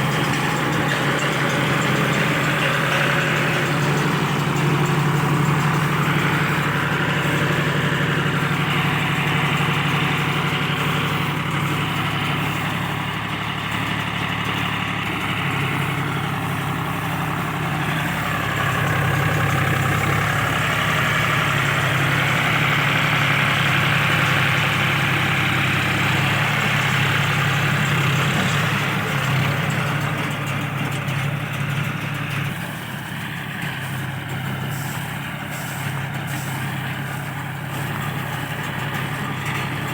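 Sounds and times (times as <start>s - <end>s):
baler clattering: 0.0s - 39.9s
tractor engine running: 0.0s - 39.9s.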